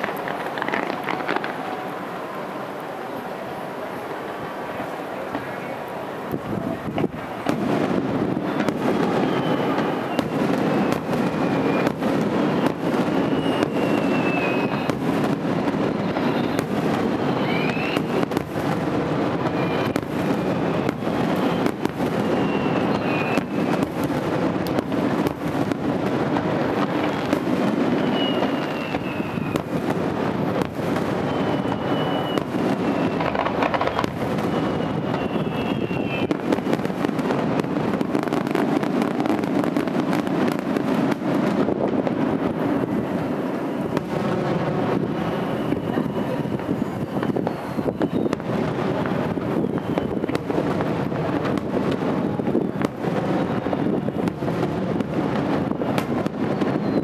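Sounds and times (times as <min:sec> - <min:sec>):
firework whistles: 0:00.0 - 0:57.0
fireworks bursting: 0:00.0 - 0:57.0.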